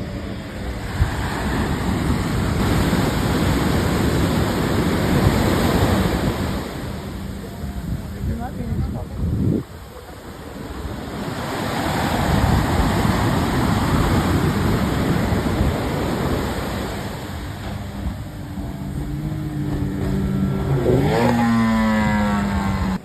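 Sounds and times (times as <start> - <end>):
outboard motor revving: 0.0 - 7.4, 11.4 - 23.0
surf rushing: 0.0 - 23.0.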